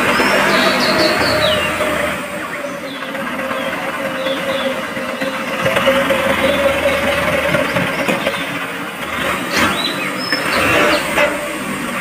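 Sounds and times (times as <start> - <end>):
wheels running over mud: 0.0 - 12.0.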